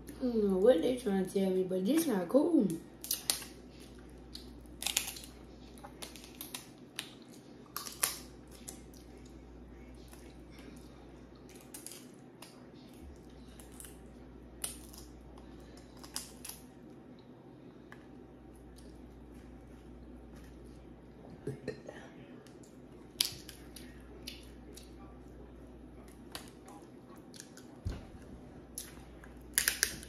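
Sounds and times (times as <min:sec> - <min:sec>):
faint steady hum: 0:00.0 - 0:30.0
chewing with crackles and clicks: 0:01.9 - 0:30.0.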